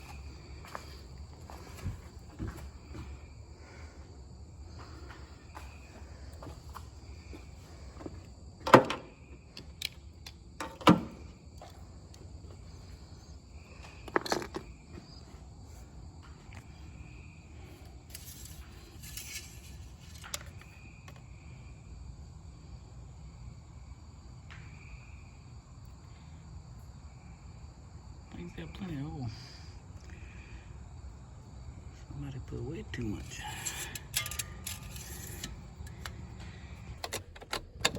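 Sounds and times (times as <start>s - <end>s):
crickets chirping: 0.0s - 37.9s.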